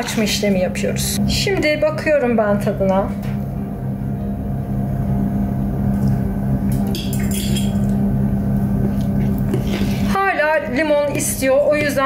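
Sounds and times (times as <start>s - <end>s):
steady low pulsing hum: 0.0s - 12.0s.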